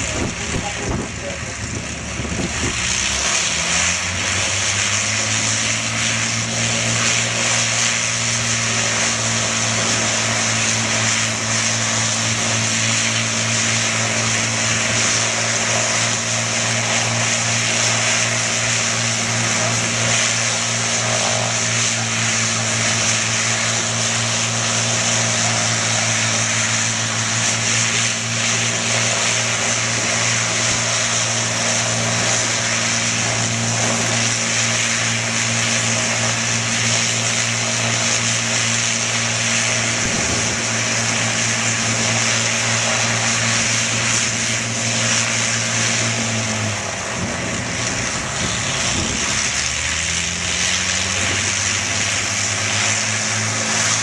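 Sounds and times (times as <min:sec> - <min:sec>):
propeller aircraft engines running: 0:00.0 - 0:54.0.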